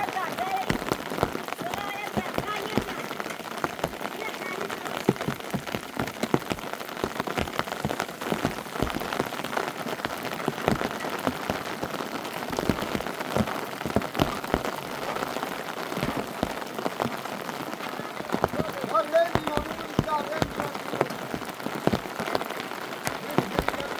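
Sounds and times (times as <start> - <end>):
raindrops striking close by: 0.0 - 23.9
steady rain: 0.0 - 23.9.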